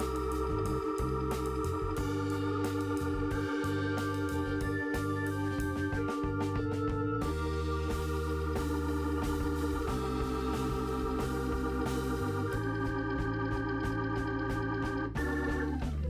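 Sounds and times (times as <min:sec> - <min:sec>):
organ music: 0:00.0 - 0:16.0.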